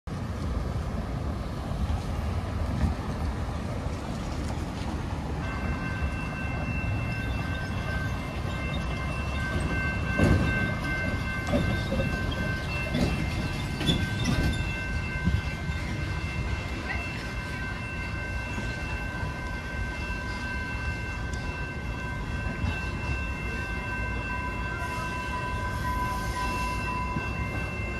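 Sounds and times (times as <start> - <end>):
railroad crossing bell ringing: 5.2 - 27.9.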